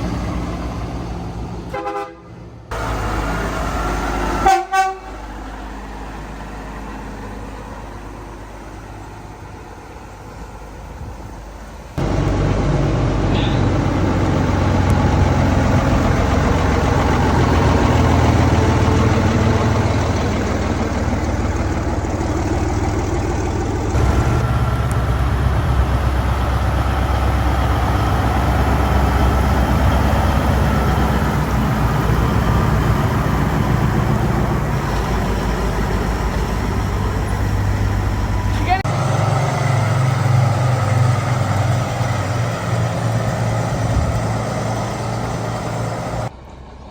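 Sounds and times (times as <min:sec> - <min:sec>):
truck engine rumbling: 0:00.0 - 0:46.9.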